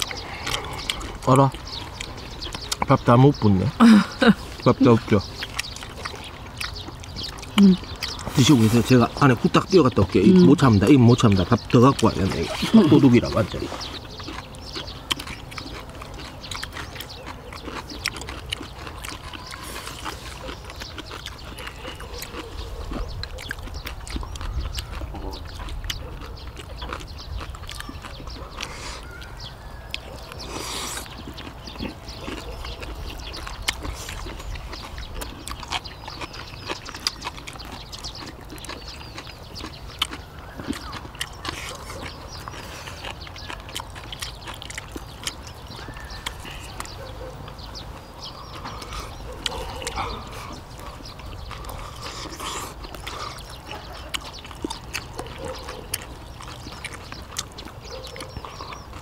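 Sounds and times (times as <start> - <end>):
chewing and mouth sounds: 0.0 - 59.0.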